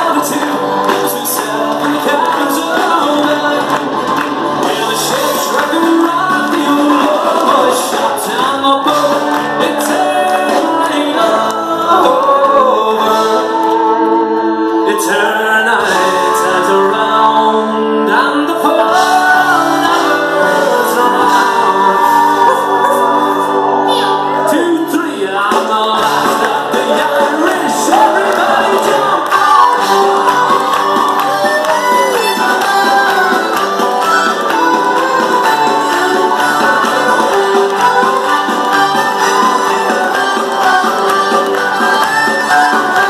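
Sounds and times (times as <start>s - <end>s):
live folk band playing: 0.0s - 43.0s
man singing: 0.0s - 43.0s.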